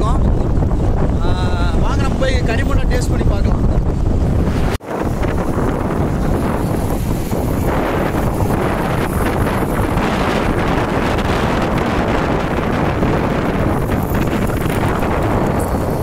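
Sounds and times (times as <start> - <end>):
road and traffic rumble: 0.0 - 16.0
wind buffeting microphone: 0.0 - 16.0.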